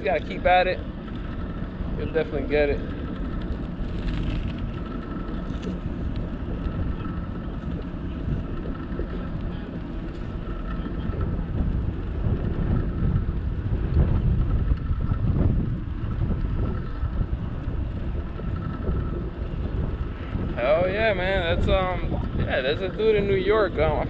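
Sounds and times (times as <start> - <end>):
steady low rumble: 0.0 - 24.0
wind buffeting microphone: 0.0 - 24.0.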